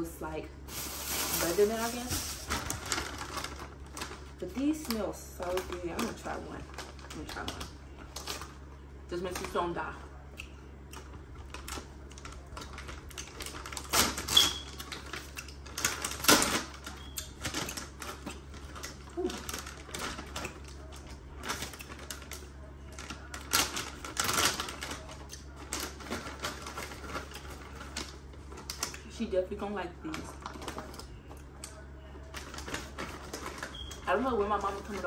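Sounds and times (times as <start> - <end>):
low steady hum: 0.0 - 35.0
plastic wrappers crinkling: 0.6 - 8.6, 11.0 - 35.0.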